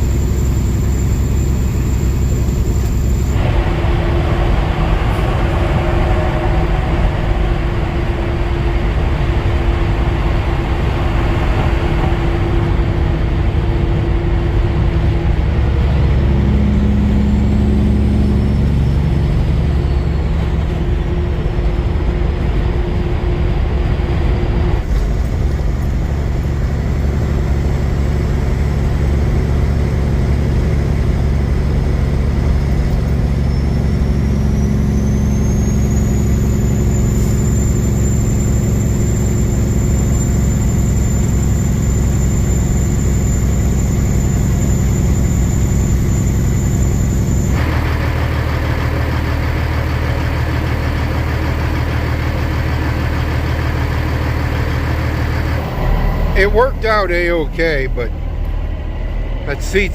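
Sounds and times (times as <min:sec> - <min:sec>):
diesel engine drone: 0:00.0 - 0:59.9
tyre and road noise: 0:00.0 - 0:59.9.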